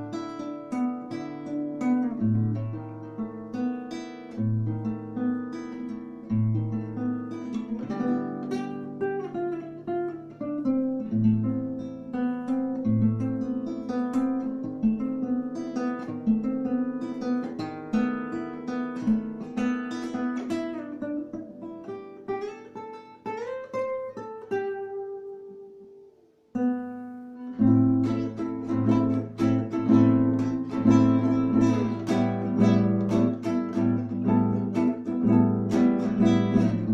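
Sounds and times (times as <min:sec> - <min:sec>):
acoustic guitar picking: 0:00.0 - 0:36.9.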